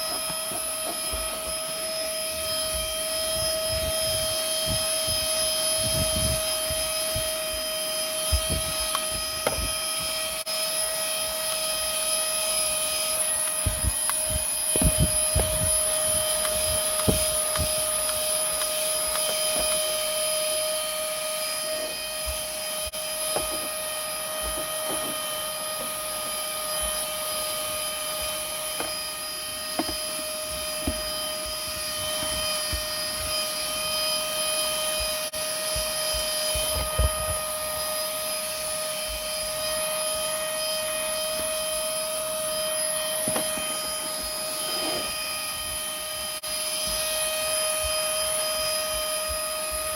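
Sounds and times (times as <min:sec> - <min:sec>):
handheld vacuum cleaner running: 0:00.0 - 0:49.9.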